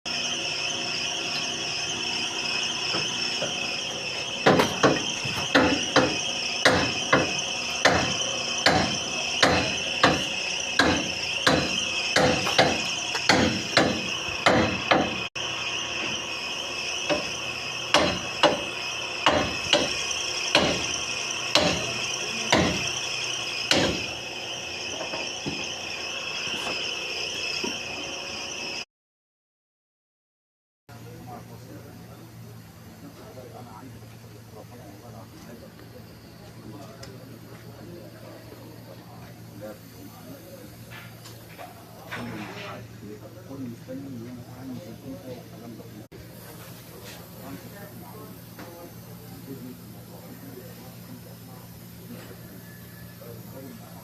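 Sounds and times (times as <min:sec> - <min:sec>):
high-pitched whine: 0:00.1 - 0:28.9, 0:30.9 - 0:54.0.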